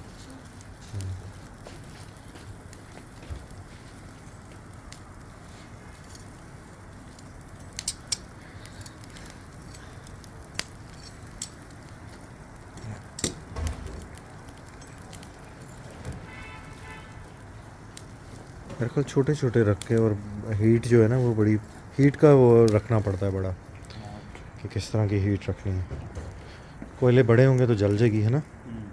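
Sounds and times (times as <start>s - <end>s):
charcoal fire hissing: 0.0s - 28.9s
fire crackles and pops: 0.0s - 28.9s.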